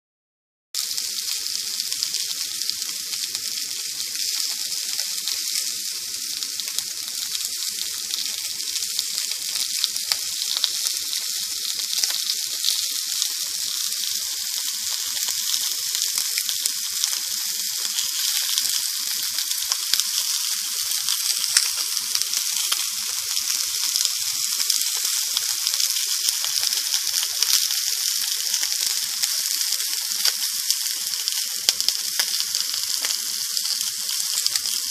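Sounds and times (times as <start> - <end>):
sausages sizzling and popping: 0.8 - 34.9.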